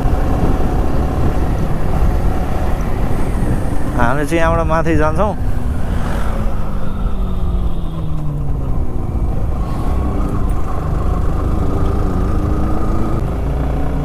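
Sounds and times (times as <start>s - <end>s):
motorcycle engine and exhaust: 0.0s - 14.0s.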